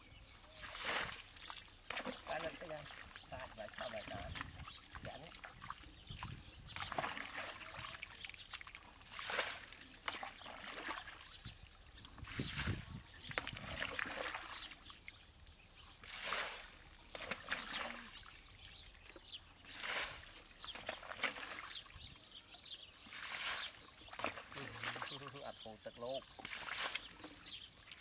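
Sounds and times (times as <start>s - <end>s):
muddy water splashing: 0.3s - 28.0s.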